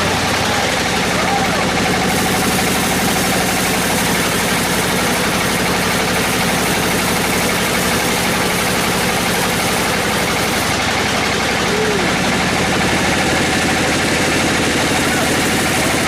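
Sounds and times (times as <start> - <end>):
large engine running: 0.0 - 16.0.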